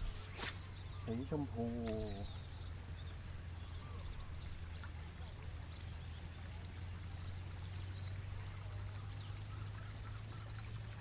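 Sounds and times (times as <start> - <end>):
steady low hum: 0.0 - 11.0
water running and trickling: 0.0 - 11.0.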